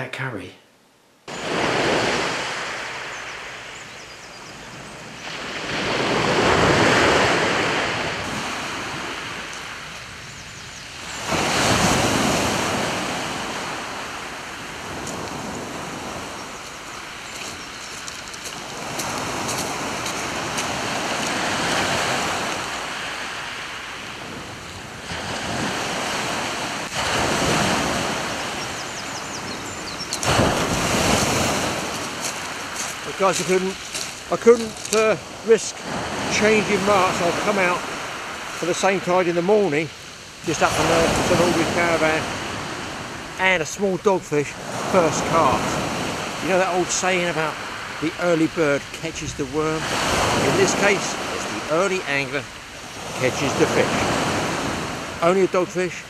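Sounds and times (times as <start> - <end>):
surf breaking on shingle beach: 1.3 - 4.0, 4.7 - 56.0.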